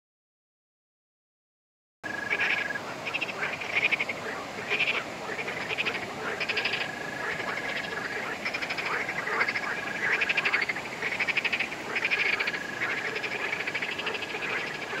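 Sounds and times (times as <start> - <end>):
frogs croaking: 2.0 - 15.0.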